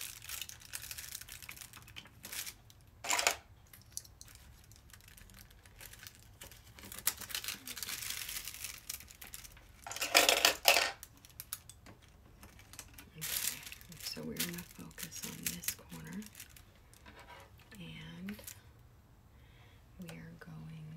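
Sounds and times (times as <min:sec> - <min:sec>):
plastic film crinkling: 0:00.0 - 0:17.6, 0:18.2 - 0:18.6.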